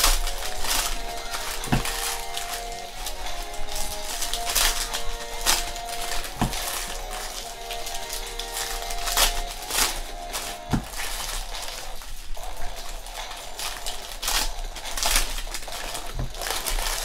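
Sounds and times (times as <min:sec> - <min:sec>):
foil wrappers tearing and crinkling: 0:00.0 - 0:17.0.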